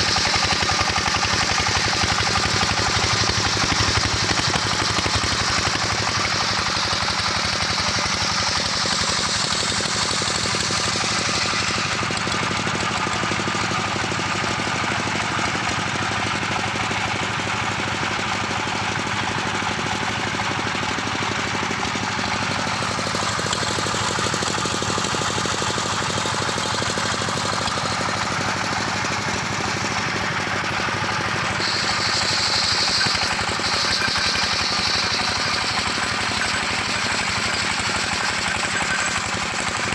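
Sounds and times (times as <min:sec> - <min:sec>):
circular sawmill sawing a log: 0:00.0 - 0:39.9.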